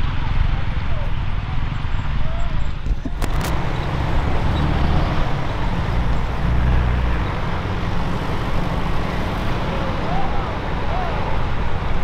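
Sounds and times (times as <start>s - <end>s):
motor vehicles running: 0.0s - 12.0s.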